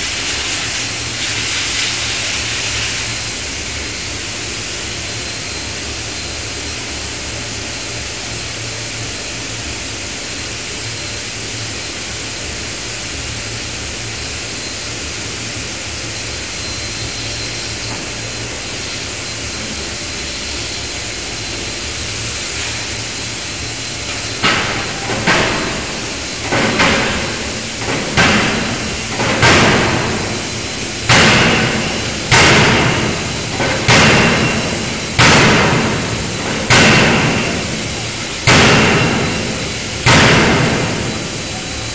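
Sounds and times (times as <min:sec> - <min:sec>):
mechanical hiss and hum: 0:00.0 - 0:41.9.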